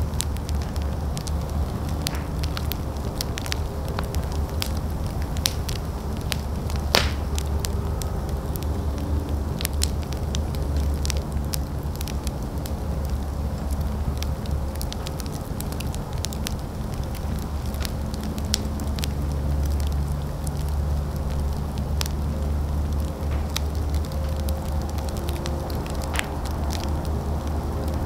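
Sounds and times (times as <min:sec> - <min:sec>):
fire crackling and popping: 0:00.0 - 0:28.0
low rumble of fire: 0:00.0 - 0:28.0.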